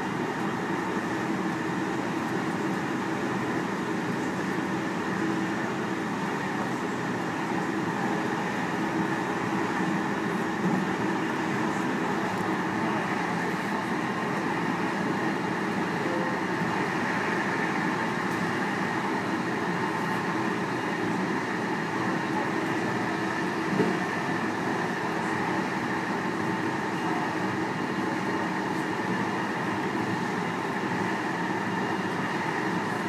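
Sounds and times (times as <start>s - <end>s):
electric train running: 0.0s - 33.0s.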